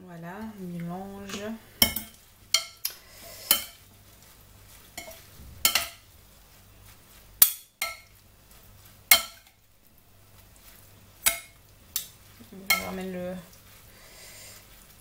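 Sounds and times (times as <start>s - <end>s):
salad leaves stirring: 0.1s - 15.0s.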